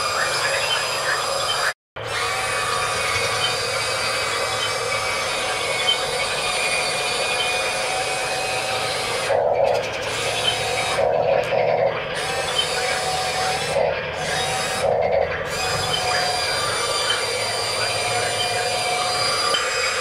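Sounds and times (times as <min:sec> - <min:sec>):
toy excavator motors whirring: 0:00.0 - 0:20.0.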